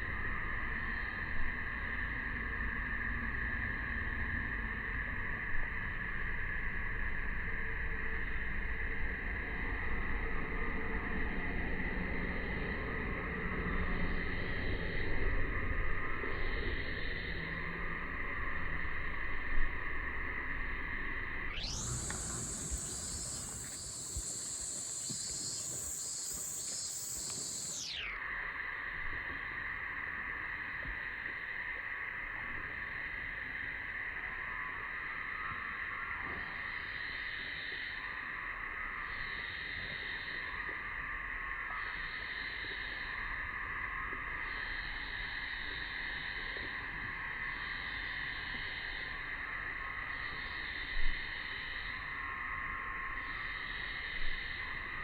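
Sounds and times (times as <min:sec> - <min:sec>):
cicadas chorus: 0:00.0 - 0:55.0.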